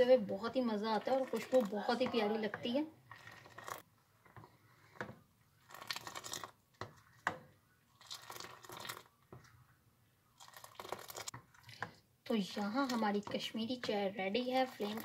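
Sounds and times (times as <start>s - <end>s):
liquid splashing and stirring: 0.0s - 15.0s.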